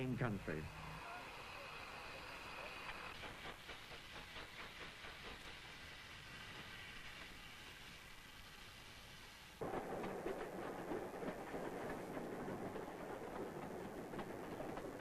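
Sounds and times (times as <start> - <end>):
train rattling and rumbling on track: 0.0 - 8.7, 9.6 - 15.0
steam train hiss: 0.0 - 15.0.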